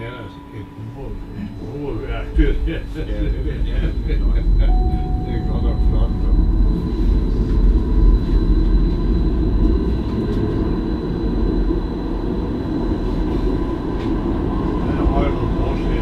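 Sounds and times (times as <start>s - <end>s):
faint steady whine: 0.0s - 16.0s
tram wheels rumbling on rails: 0.0s - 16.0s.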